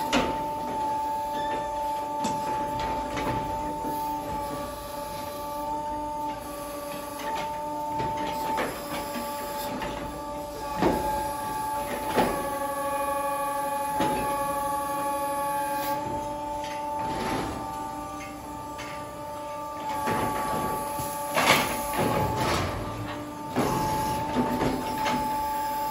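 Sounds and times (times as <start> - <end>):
hydraulics whining: 0.0 - 25.9.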